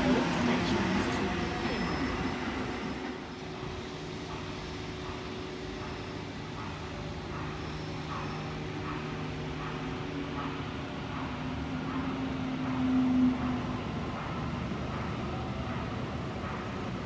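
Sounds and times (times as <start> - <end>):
electric train low hum: 0.0 - 17.0
train rumble: 0.0 - 17.0.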